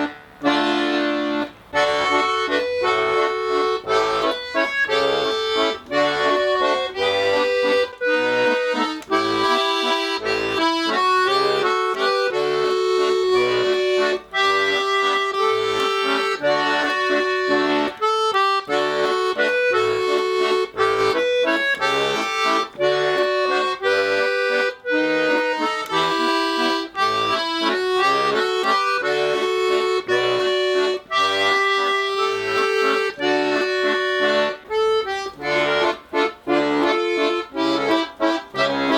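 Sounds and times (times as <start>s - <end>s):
button accordion melody: 0.0s - 38.9s.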